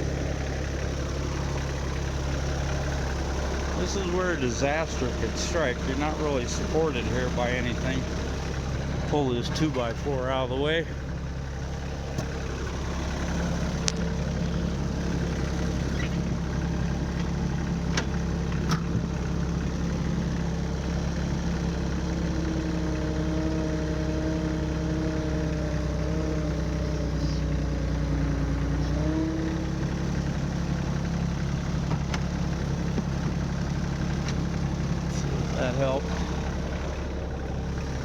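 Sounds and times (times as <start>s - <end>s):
tractor diesel engine idling: 0.0s - 38.0s.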